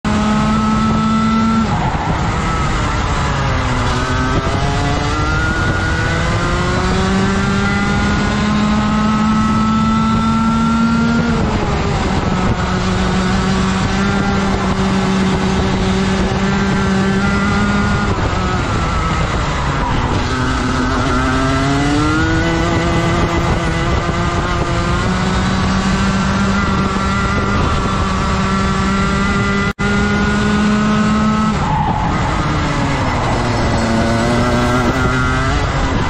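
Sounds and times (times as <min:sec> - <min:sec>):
kart engine revving: 0:00.0 - 0:36.0.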